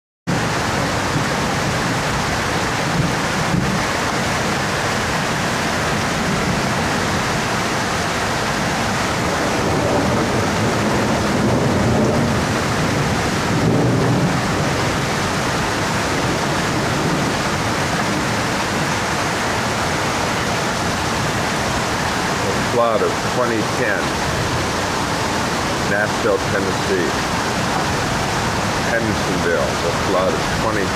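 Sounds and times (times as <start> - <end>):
creek rushing: 0.3 - 30.9
heavy rain pouring: 0.3 - 30.9.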